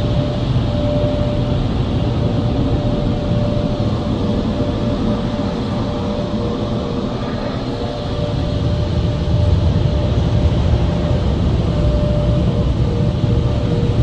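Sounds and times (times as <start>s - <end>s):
car wash blowers rushing air: 0.0s - 14.0s.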